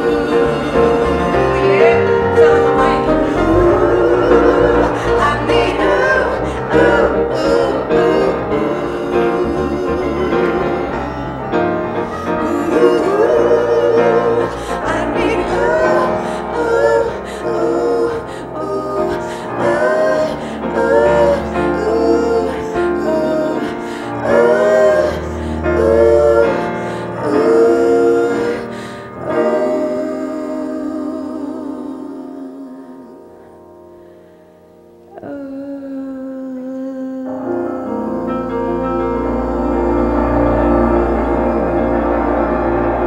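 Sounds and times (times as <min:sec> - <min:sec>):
woman singing with vibrato: 0:00.0 - 0:11.4, 0:12.2 - 0:33.4, 0:35.1 - 0:43.0
backing singers: 0:00.0 - 0:33.5, 0:35.1 - 0:43.0.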